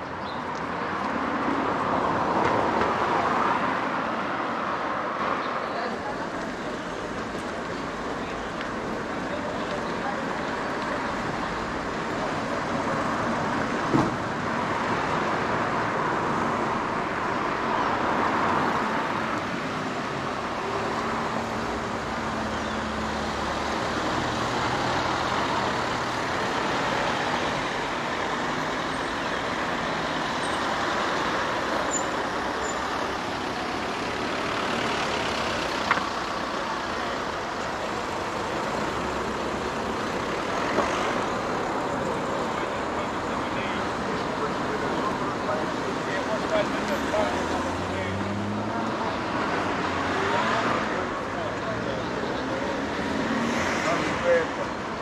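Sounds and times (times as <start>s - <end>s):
passing vehicles: 0.0s - 55.0s.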